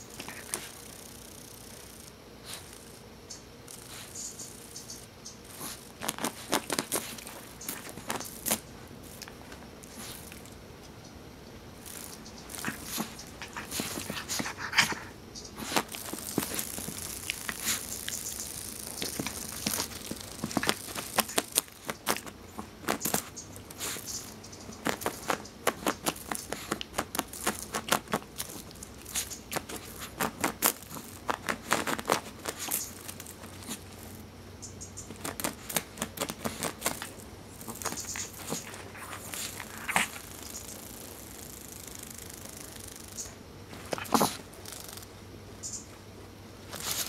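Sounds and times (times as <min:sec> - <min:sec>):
dog pawing at insect on carpet: 0:00.0 - 0:11.2, 0:11.8 - 0:46.0, 0:46.6 - 0:47.0.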